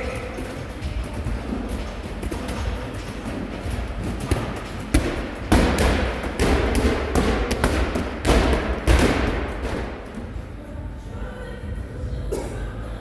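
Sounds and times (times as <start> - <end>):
medicine balls thudding against wall: 0.0 - 10.7.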